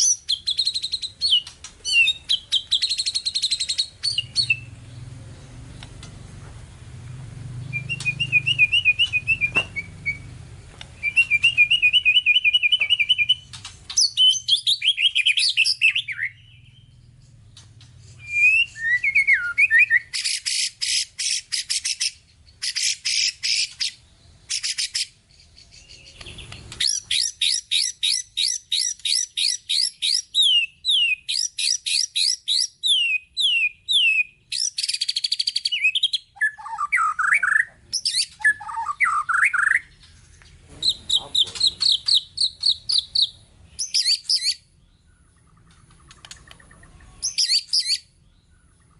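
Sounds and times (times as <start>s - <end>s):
songbird singing varied song: 0.0s - 48.9s.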